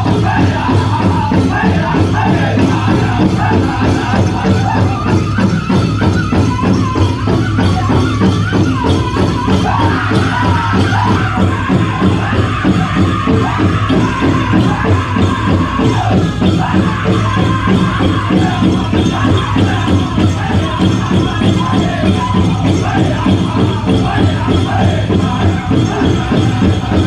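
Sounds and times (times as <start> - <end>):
big drum beating: 0.0 - 7.5, 9.3 - 27.0
men singing: 0.0 - 7.7, 9.0 - 27.0
jingling bells: 0.0 - 27.0.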